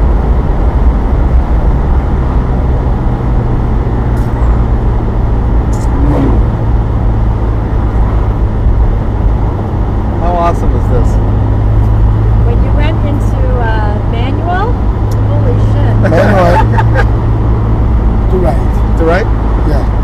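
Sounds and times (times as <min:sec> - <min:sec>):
road noise rumble: 0:00.0 - 0:20.0.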